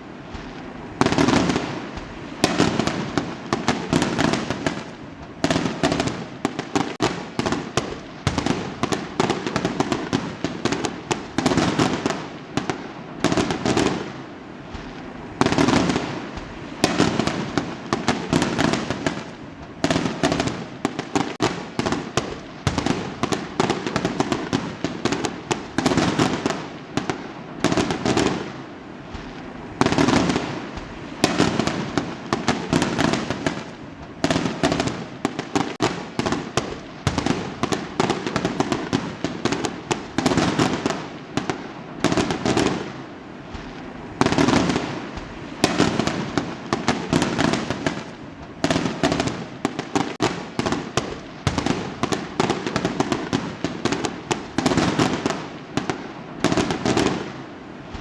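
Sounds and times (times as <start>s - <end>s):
fireworks crackling and bursting: 0.0s - 58.0s.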